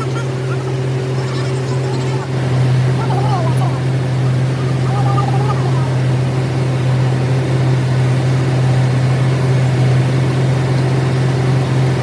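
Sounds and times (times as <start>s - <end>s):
workshop machinery humming: 0.0s - 12.0s.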